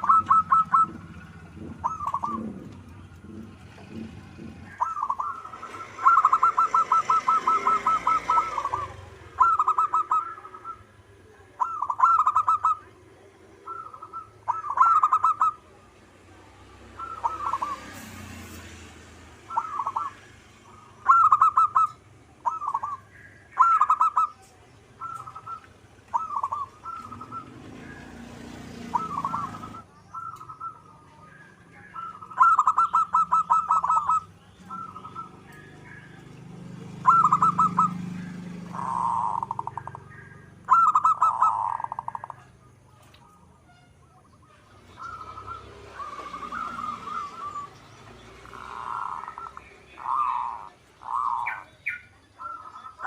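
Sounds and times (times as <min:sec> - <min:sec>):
dove cooing: 0:00.0 - 0:18.4, 0:19.4 - 0:43.4, 0:44.8 - 0:53.0.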